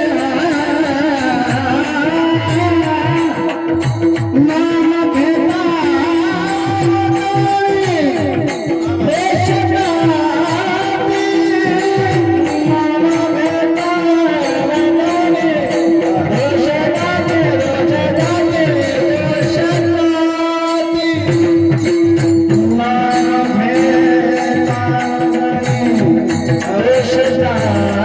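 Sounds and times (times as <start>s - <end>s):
drum strokes: 0.0s - 28.0s.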